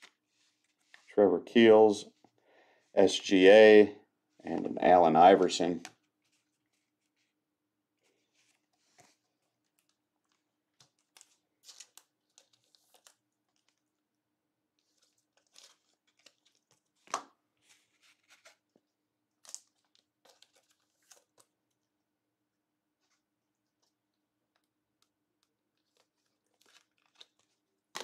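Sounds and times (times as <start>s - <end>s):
trading cards rustling and crinkling: 0.0s - 2.4s, 3.0s - 7.4s, 8.0s - 13.9s, 14.8s - 21.6s, 23.0s - 28.0s.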